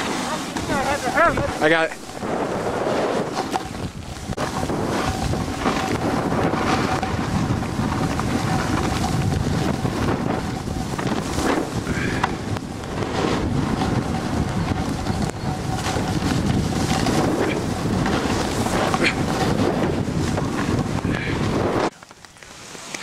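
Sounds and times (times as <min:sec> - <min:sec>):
wind rushing over microphone: 0:00.0 - 0:21.9
snowboard scraping packed snow: 0:00.0 - 0:23.0.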